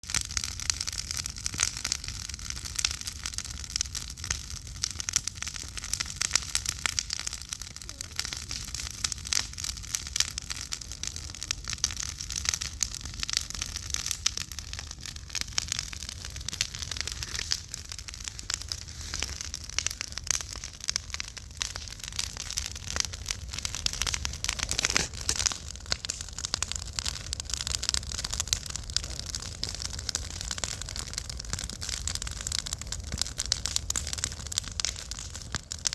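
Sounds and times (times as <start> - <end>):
fire crackling and popping: 0.0 - 35.9.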